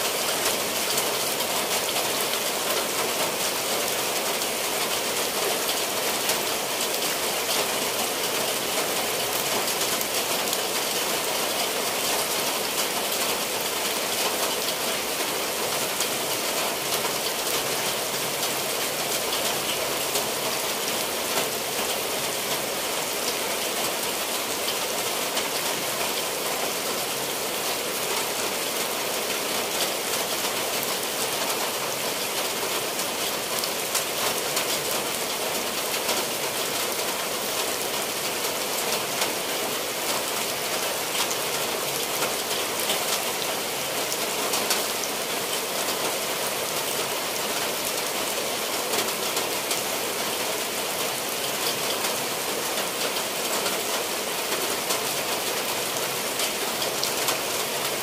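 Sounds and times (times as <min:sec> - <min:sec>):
rain on tiled roofs: 0:00.0 - 0:58.0.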